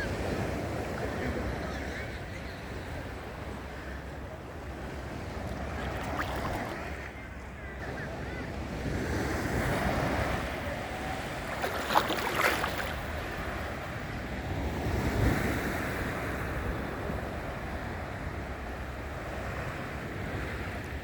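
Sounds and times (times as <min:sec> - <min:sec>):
sea waves washing ashore: 0:00.0 - 0:21.0.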